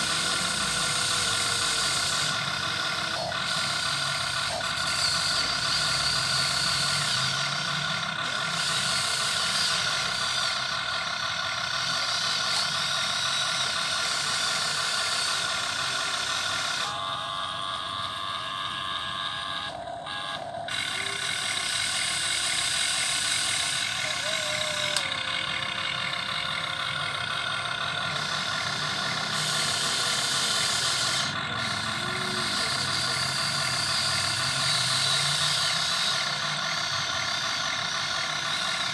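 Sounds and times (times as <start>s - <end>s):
electric motors and gears whining: 0.0s - 38.9s.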